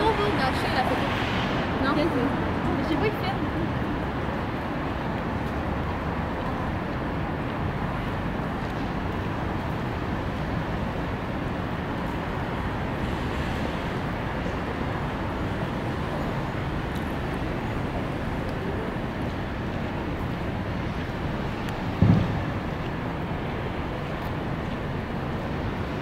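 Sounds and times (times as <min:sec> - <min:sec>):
city rumble and hiss: 0:00.0 - 0:26.0.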